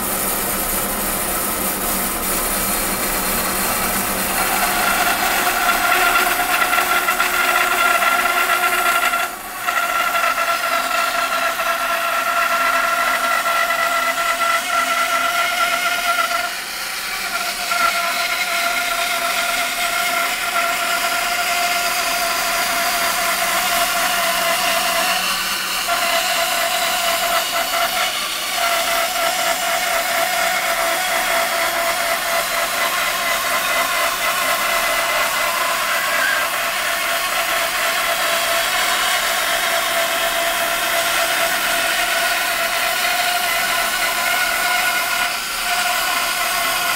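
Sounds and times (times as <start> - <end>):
band saw whining: 0.0 - 46.9
hiss of saw cutting wood: 0.0 - 46.9.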